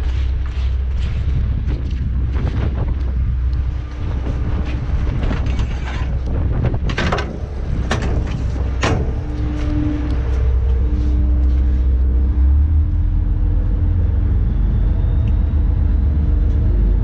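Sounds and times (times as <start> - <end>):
boat engine low rumble: 0.0 - 17.0
wind noise on microphone: 0.0 - 17.0.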